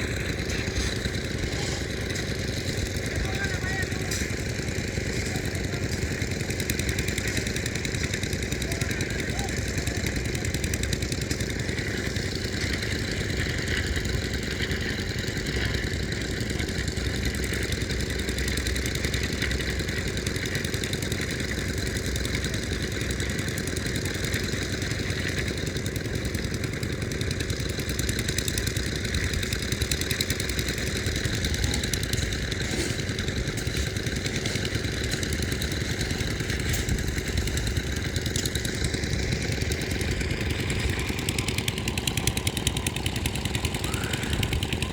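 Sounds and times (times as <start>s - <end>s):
engine running steadily: 0.0s - 44.9s.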